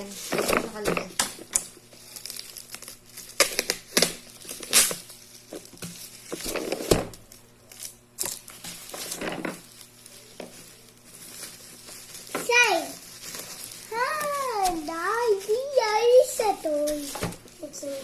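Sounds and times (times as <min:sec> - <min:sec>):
packaging crinkling: 0:00.0 - 0:18.0
tearing rustles: 0:00.0 - 0:18.0.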